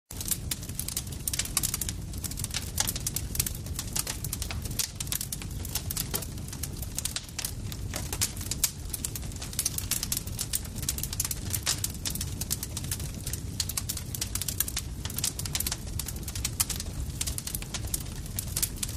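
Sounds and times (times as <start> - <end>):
campfire crackling: 0.1 - 18.9.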